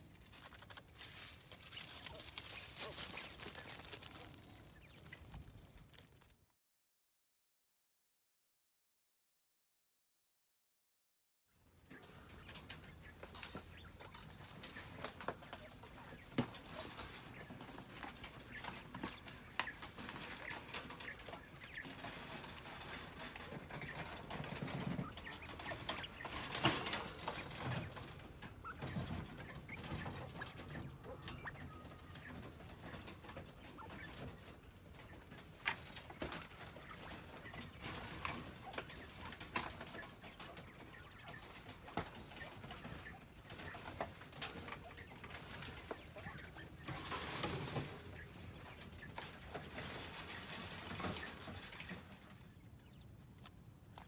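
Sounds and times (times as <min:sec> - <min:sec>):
clicks and taps on wire cages: 0:00.0 - 0:06.1, 0:11.9 - 0:54.0
quail calling and clucking: 0:00.0 - 0:06.2, 0:11.7 - 0:54.0.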